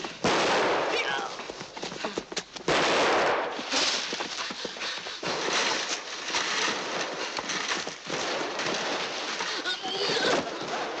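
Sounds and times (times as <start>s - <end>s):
running footsteps: 1.1s - 11.0s.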